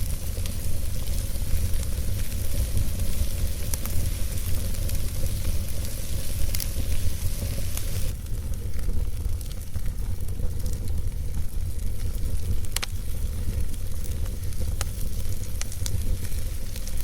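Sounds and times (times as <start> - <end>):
campfire crackling: 0.0 - 17.0
fire popping: 0.0 - 17.0
low rumble: 0.0 - 17.0.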